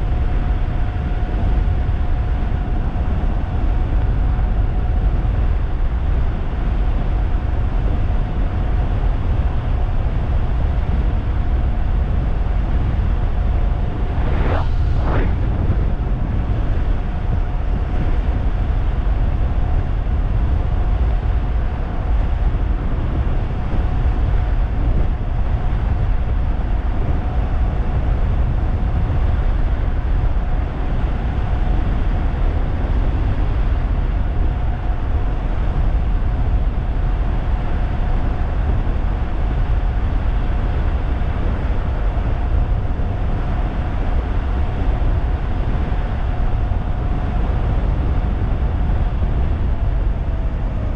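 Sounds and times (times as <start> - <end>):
wind rumble on microphone: 0.0 - 50.9.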